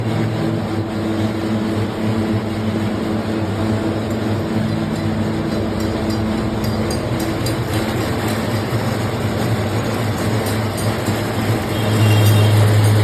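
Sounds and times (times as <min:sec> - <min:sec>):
lathe machine humming: 0:00.0 - 0:13.0.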